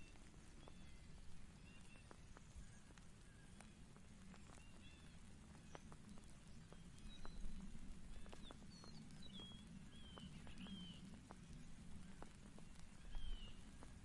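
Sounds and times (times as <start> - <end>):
bird chirping: 0.0 - 14.0
light ticks: 0.0 - 14.0.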